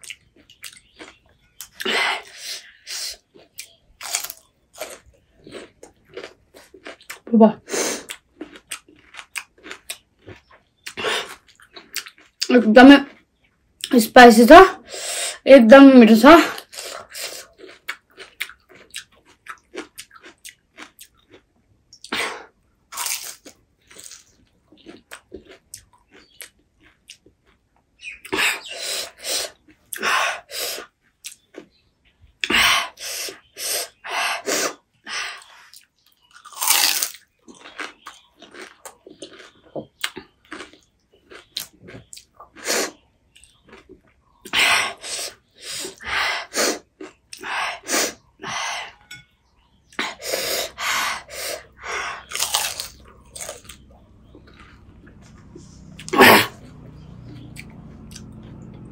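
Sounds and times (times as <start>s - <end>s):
chewing and crunching: 0.0s - 14.0s, 16.5s - 58.9s.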